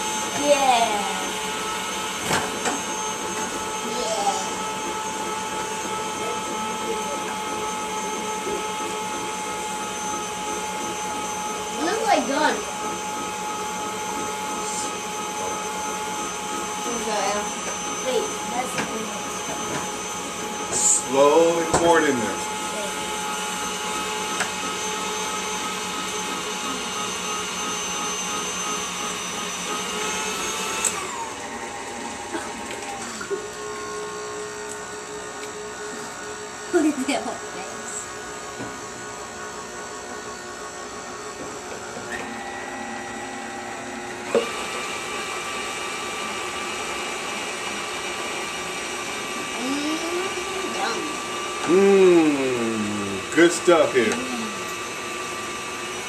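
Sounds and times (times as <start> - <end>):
stand mixer motor whine: 0.0 - 56.0.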